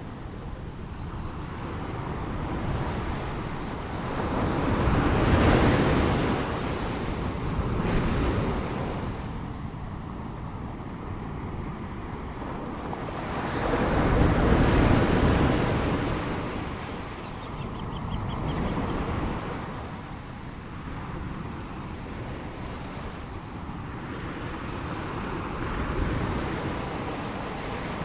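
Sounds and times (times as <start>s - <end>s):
ocean waves breaking: 1.6s - 28.0s.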